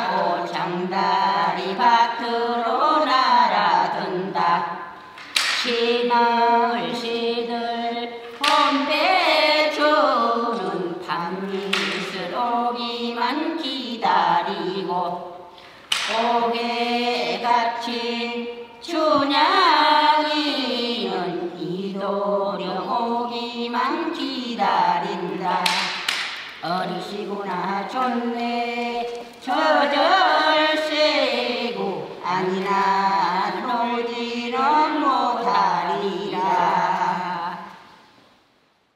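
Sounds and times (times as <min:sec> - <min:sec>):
women singing unaccompanied: 0:00.0 - 0:38.1.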